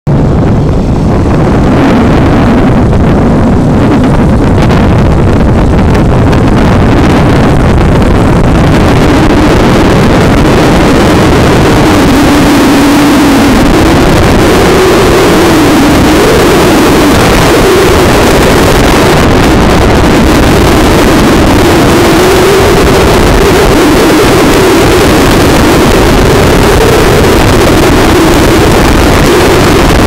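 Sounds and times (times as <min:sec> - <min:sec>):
vehicle engine running: 0:00.1 - 0:30.0
wind buffeting microphone: 0:00.1 - 0:30.0.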